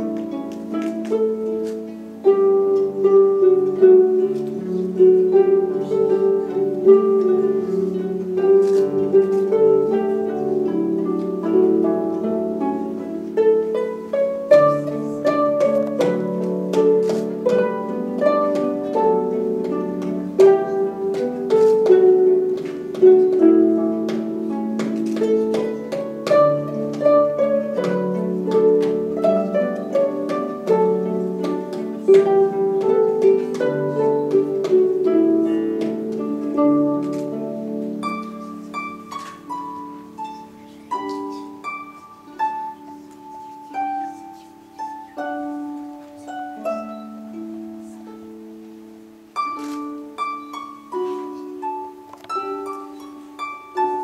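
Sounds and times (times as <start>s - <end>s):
harps playing: 0.0s - 54.0s.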